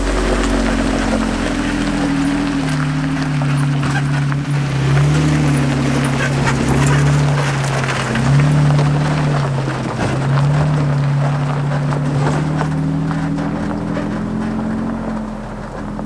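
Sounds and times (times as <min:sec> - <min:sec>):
tyres crunching on gravel: 0:00.0 - 0:16.0.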